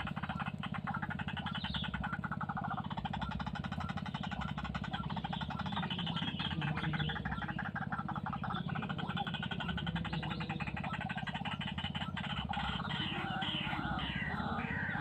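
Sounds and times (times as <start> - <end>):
bird croaking calls: 0.0 - 15.0.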